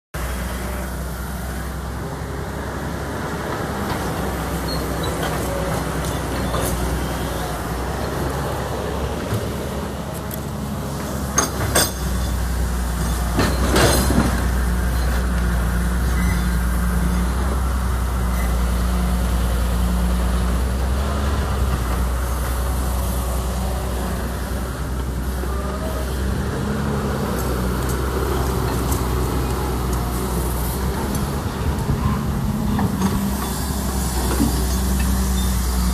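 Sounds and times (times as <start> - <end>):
excavator diesel engine running: 0.2 - 35.9.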